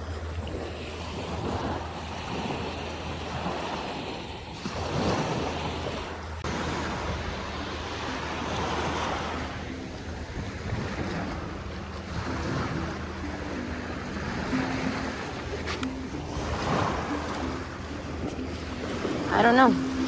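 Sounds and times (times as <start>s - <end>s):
small waves washing on beach: 0.0s - 20.0s
wind on microphone: 0.0s - 20.0s.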